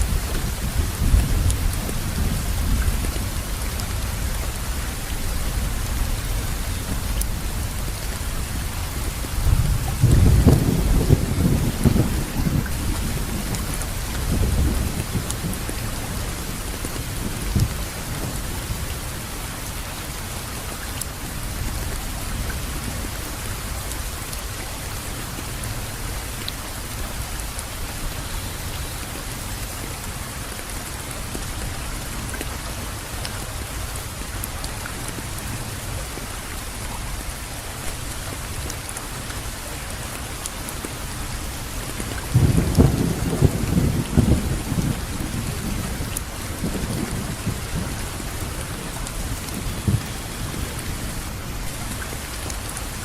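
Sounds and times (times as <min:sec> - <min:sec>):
steady rainfall: 0:00.0 - 0:53.0.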